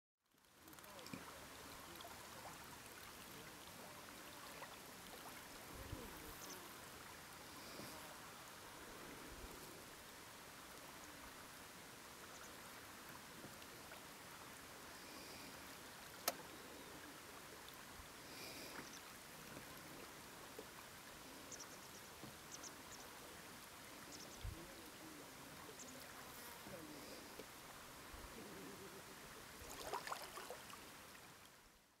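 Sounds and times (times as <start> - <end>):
outdoor background hiss: 0.3 - 32.0.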